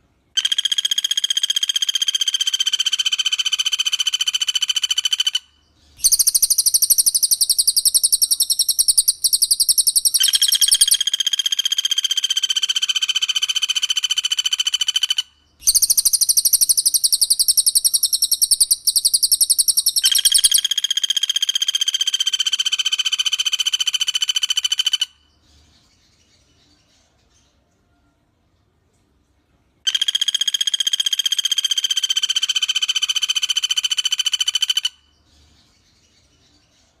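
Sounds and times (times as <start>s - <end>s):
bird trilling: 0.4s - 25.2s, 29.9s - 35.0s.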